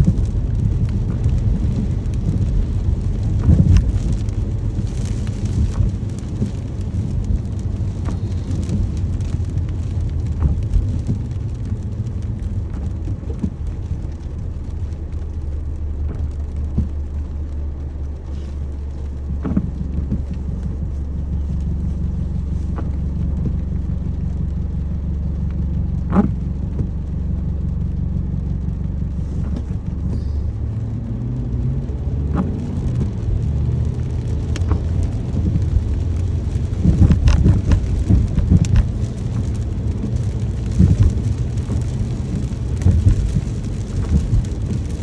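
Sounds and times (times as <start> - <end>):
continuous low rumble: 0.0 - 45.0
steady rain: 0.0 - 45.0.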